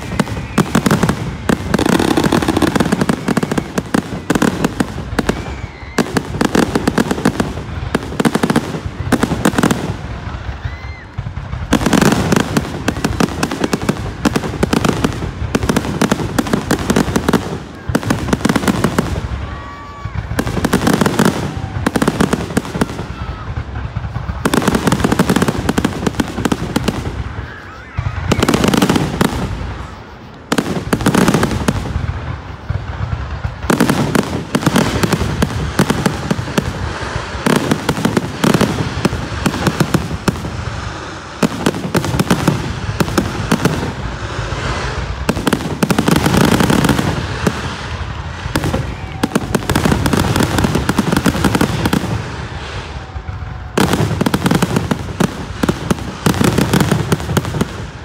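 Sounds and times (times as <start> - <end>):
fireworks bursting with crackling: 0.0 - 58.0.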